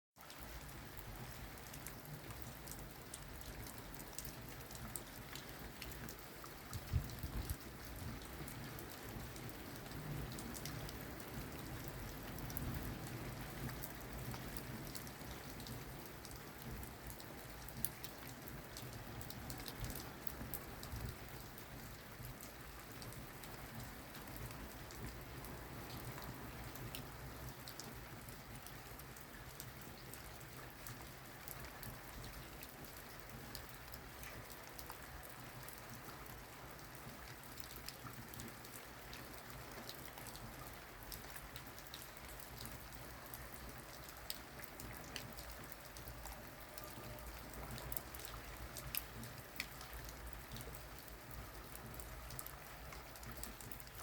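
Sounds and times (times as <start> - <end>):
rain pattering on a surface: 0.2 - 54.0.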